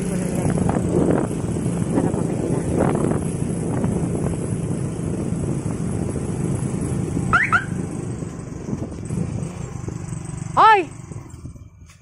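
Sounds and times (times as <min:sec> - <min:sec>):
motorcycle on wet road: 0:00.0 - 0:11.8.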